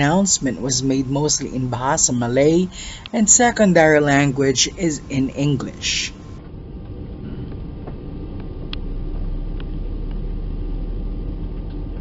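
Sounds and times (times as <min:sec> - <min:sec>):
aircraft cabin rumble and hum: 0:00.0 - 0:12.0.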